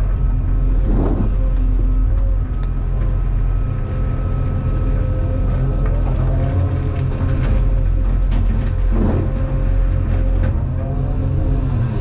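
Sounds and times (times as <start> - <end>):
diesel engine running: 0.0 - 12.0
hydraulic whine: 0.0 - 12.0.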